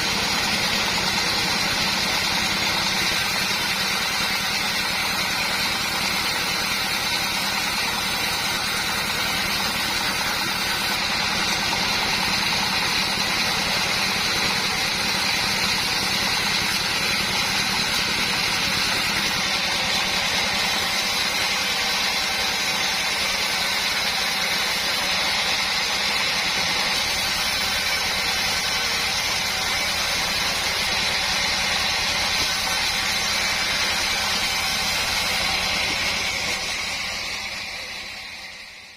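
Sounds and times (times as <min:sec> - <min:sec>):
engine drone: 0:00.0 - 0:38.9
high machine whine: 0:00.0 - 0:38.9.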